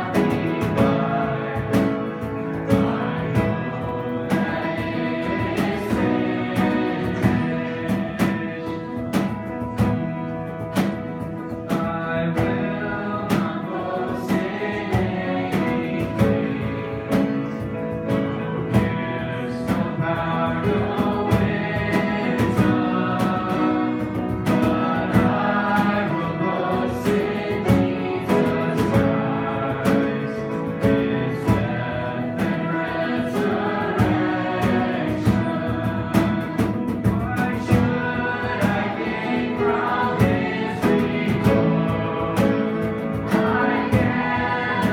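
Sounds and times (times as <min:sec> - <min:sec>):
group singing worship song: 0:00.0 - 0:44.9
guitar: 0:00.0 - 0:44.9
steady beat: 0:00.0 - 0:44.9.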